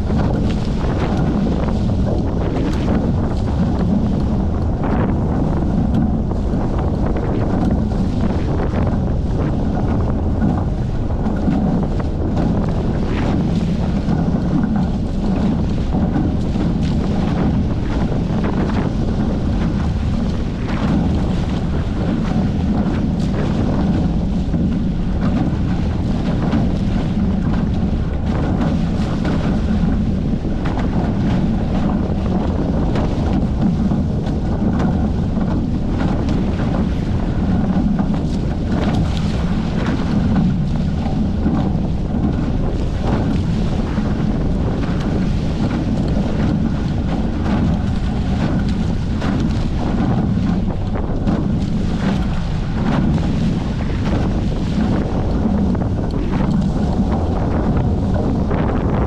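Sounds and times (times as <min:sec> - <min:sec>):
water rushing past hulls: 0:00.0 - 0:59.0
wind buffeting microphone: 0:00.0 - 0:59.0.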